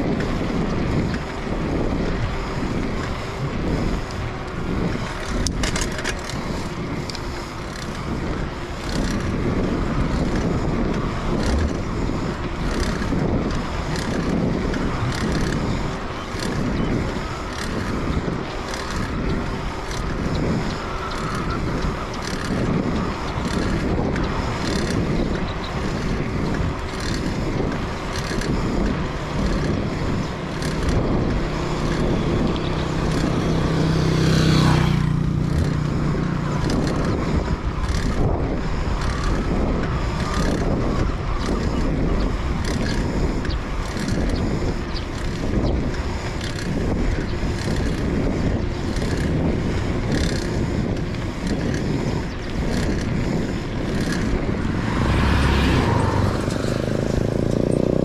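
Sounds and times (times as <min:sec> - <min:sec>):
vehicle running: 0:00.0 - 0:58.0
wind buffeting microphone: 0:00.0 - 0:58.0.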